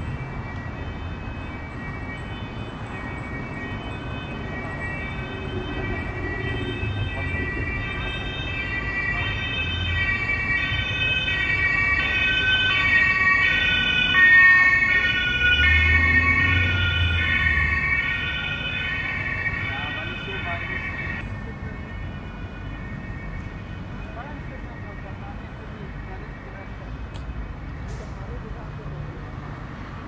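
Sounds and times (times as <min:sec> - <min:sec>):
two-tone siren: 0:00.0 - 0:27.9
low traffic rumble: 0:00.0 - 0:30.0.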